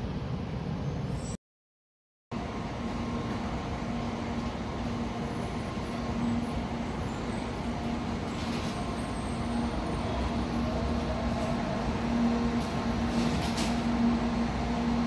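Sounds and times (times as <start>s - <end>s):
train rumbling: 2.4s - 15.0s.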